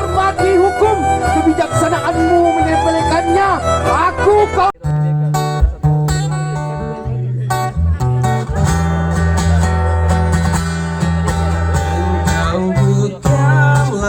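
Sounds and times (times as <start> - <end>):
strummed acoustic guitar and bass: 0.0 - 14.0.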